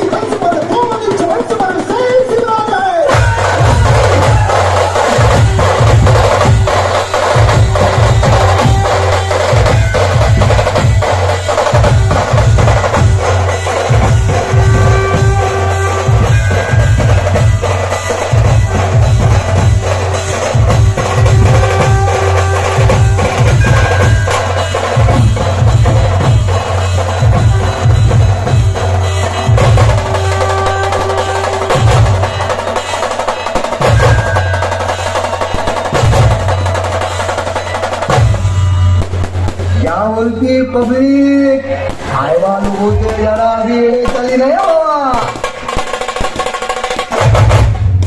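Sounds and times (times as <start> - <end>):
booming bass drum beats: 0.0 - 48.0
fast snare drum strokes: 0.0 - 48.0.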